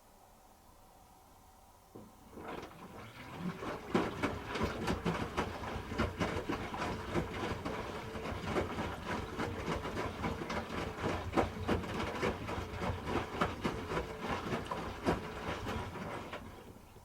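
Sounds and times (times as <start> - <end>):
washing machine drum hum: 2.0 - 17.0.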